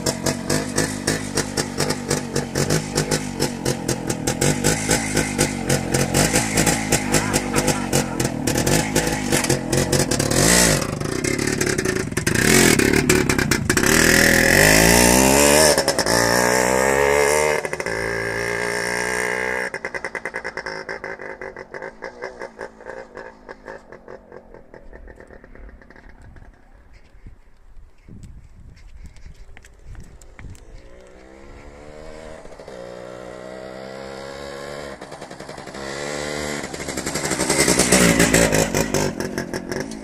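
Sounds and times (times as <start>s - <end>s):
two-stroke motorcycle revving: 0.0s - 26.6s, 30.2s - 40.0s.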